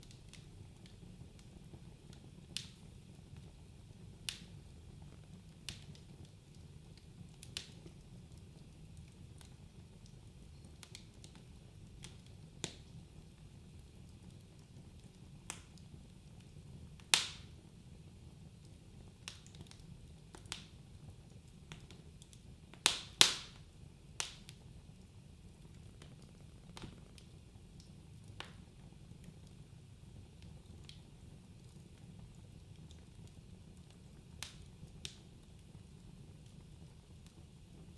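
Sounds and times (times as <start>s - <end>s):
low rumble of flames: 0.0s - 37.9s
wood fire crackling: 0.0s - 37.9s.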